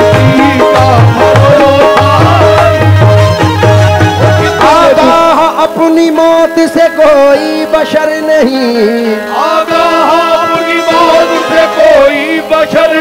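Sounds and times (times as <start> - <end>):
sliding wordless vocals: 0.0 - 2.9, 4.6 - 13.0
harmonium: 0.0 - 13.0.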